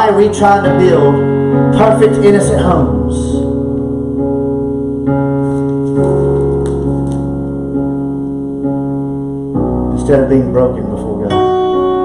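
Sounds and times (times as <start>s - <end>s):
electric keyboard chords: 0.0s - 12.0s.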